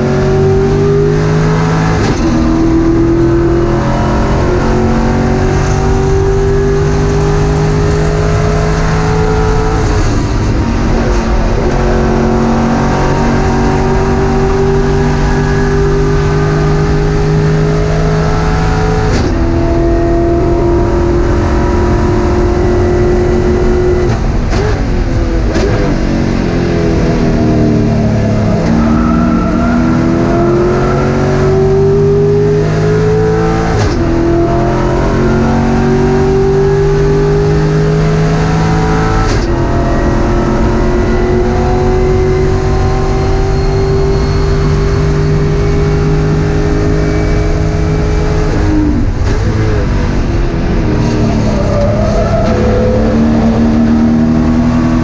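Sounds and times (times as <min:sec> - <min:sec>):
race car engine revving hard: 0:00.0 - 0:55.0.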